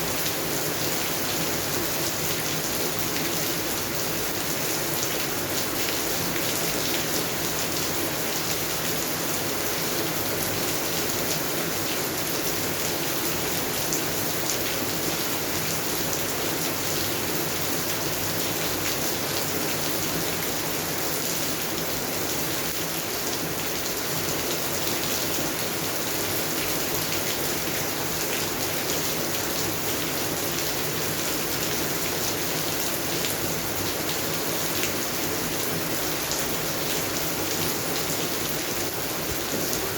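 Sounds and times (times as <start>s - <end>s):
steady rain on plants: 0.0s - 39.9s.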